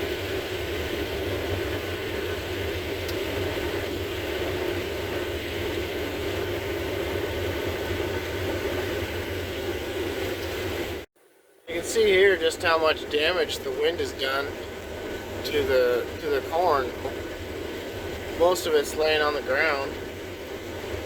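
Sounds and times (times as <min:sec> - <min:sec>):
combine harvester running: 0:00.0 - 0:11.1, 0:11.7 - 0:21.0.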